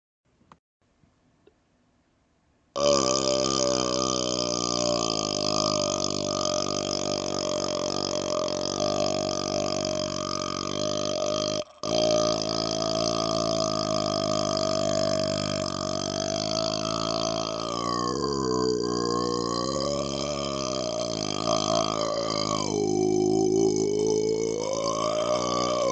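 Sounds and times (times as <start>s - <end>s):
man burping: 2.8s - 25.9s.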